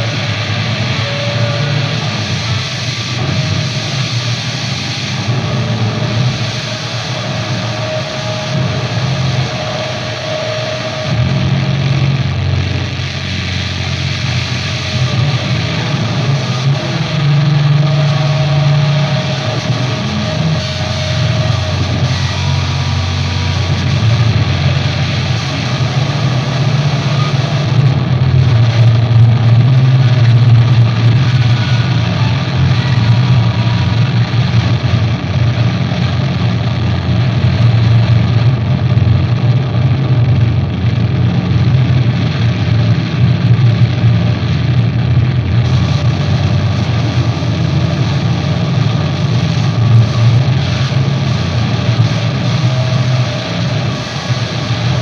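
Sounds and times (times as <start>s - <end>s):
electric guitar drone: 0.0s - 55.0s.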